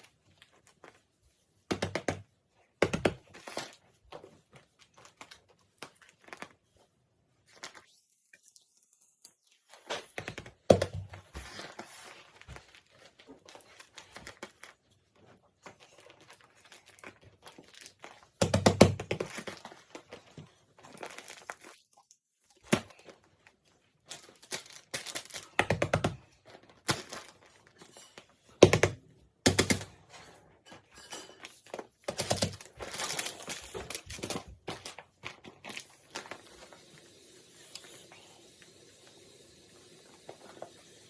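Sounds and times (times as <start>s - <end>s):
paper and tape crinkling: 0.0s - 1.7s, 3.2s - 28.7s, 29.5s - 37.0s.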